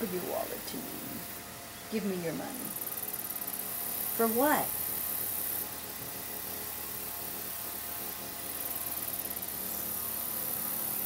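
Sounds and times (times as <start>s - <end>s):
constant hiss: 0.0s - 11.0s
distant string trimmer engine: 0.0s - 11.0s
high buzzing: 0.0s - 11.0s.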